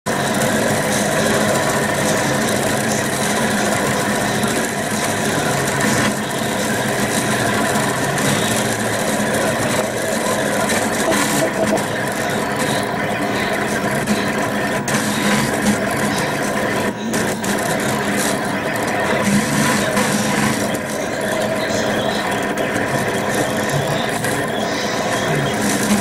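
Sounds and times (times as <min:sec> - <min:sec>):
printer stepper motors whirring: 0:00.1 - 0:26.0.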